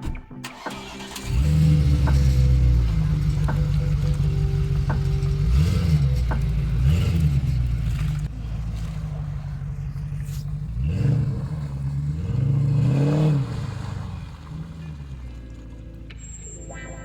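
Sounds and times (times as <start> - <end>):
engine revving: 0.4 - 16.3.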